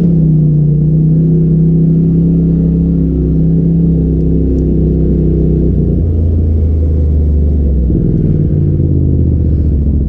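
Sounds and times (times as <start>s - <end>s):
engine running at steady revs: 0.0s - 10.0s.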